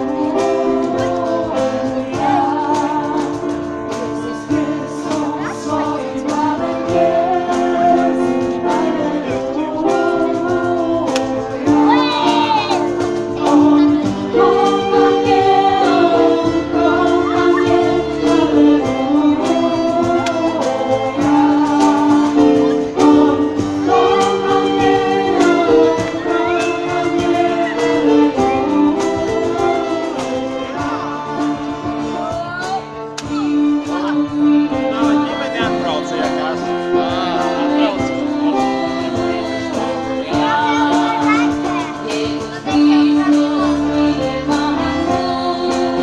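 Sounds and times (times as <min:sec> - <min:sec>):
acoustic guitar: 0:00.0 - 0:46.0
violin: 0:00.0 - 0:46.0
women singing together: 0:00.0 - 0:46.0.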